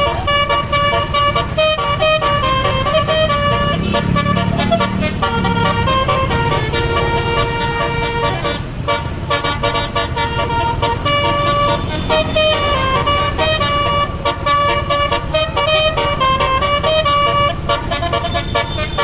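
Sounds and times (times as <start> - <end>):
multi-tone bus horn melody: 0.0 - 19.0.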